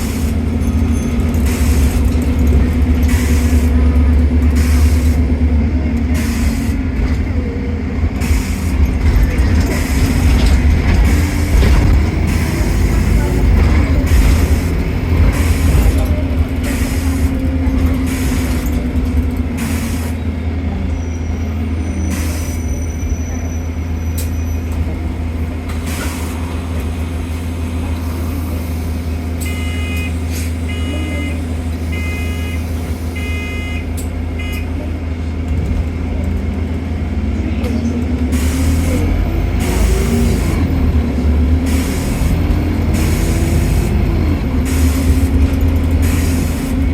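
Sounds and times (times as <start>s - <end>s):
bus engine droning: 0.0s - 46.9s.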